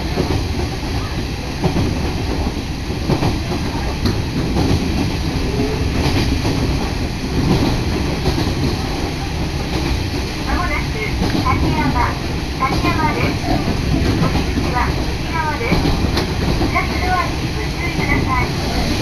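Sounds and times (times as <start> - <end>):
railcar low rumble: 0.0 - 19.0
wheels clicking on rails: 0.0 - 19.0.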